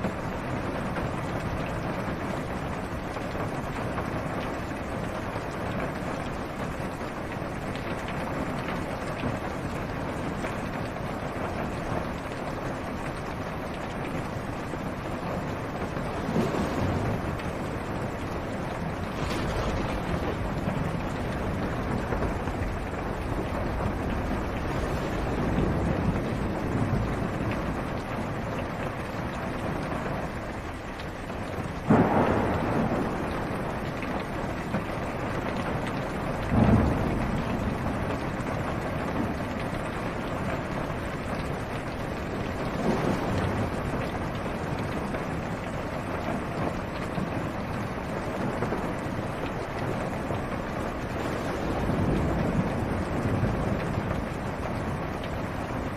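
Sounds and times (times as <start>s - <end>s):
rain on a car roof: 0.0s - 55.9s
thunder claps and rumbles: 0.0s - 55.9s.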